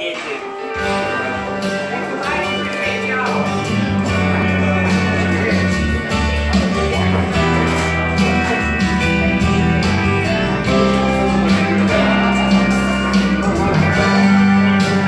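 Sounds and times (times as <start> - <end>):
guitar music: 0.0 - 15.0
low bass notes: 0.7 - 15.0.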